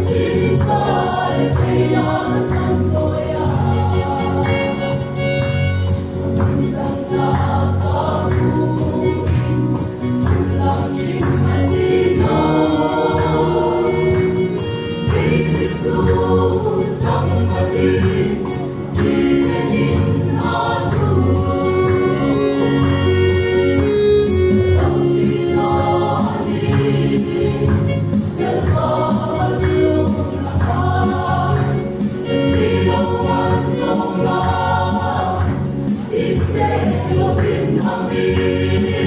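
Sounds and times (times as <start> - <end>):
choir singing in harmony: 0.0 - 39.0
steady percussive beat: 0.0 - 39.0.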